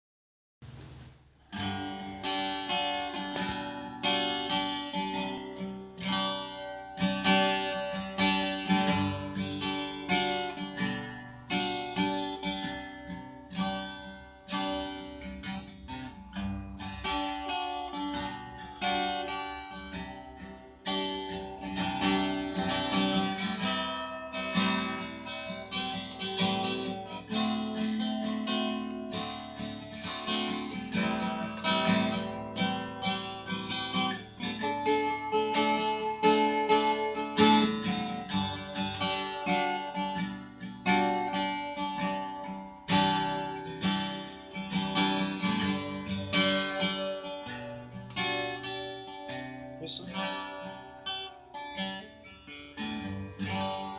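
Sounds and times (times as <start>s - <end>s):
fingerstyle acoustic guitar: 0.6s - 53.9s.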